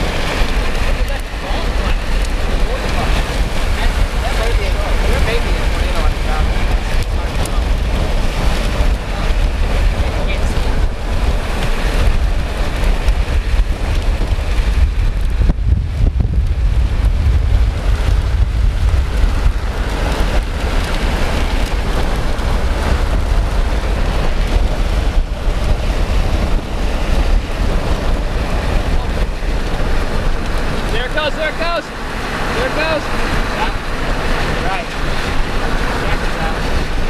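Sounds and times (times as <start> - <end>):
storm wind buffeting microphone: 0.0 - 37.0.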